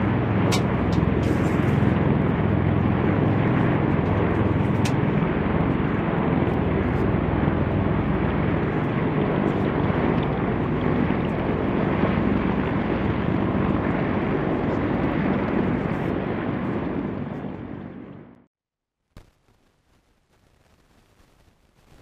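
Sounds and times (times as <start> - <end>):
helicopter rotors and turbines droning: 0.0 - 18.5.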